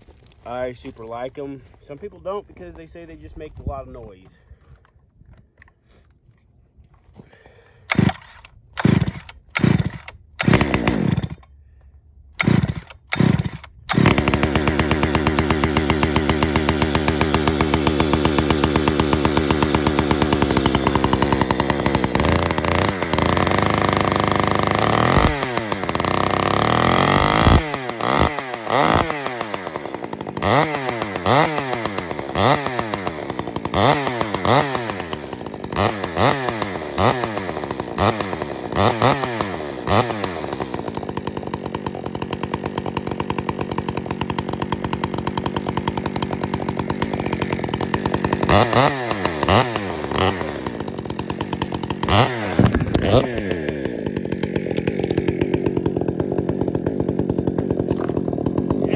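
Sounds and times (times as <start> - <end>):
chainsaw revving: 7.4 - 11.5, 12.4 - 58.9.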